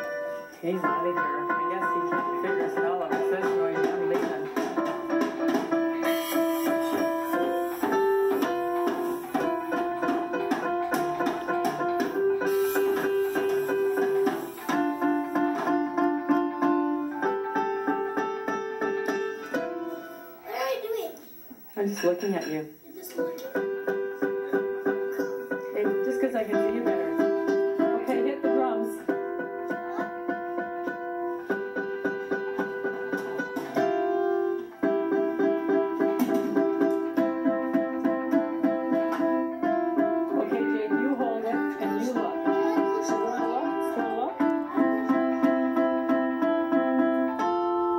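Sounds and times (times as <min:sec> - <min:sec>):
electronic keyboard notes: 0:00.0 - 0:20.6, 0:22.9 - 0:47.9.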